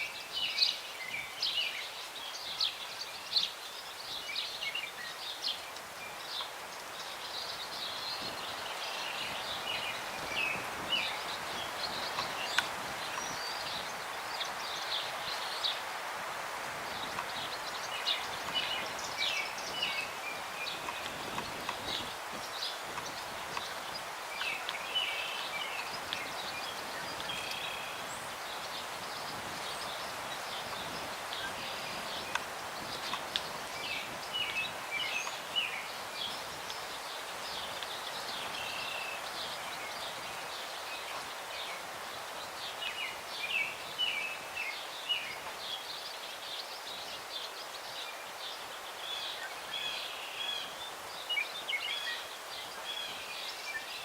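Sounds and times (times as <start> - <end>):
breeze through tree branches: 0.0 - 54.0
small birds chirping: 0.0 - 54.0.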